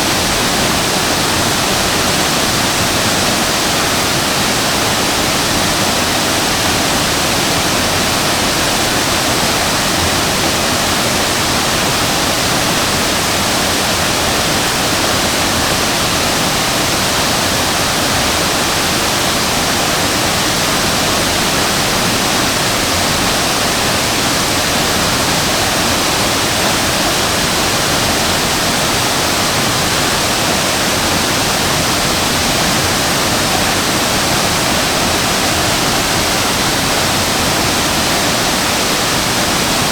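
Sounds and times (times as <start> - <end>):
waterfall crashing into pool: 0.0 - 39.9.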